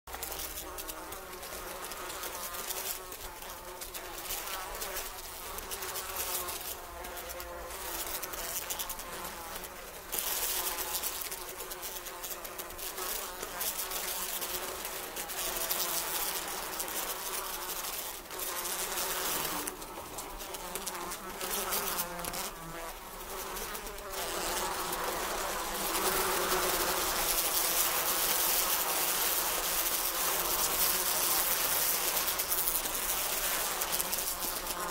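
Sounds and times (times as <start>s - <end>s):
flies buzzing: 0.1s - 34.9s.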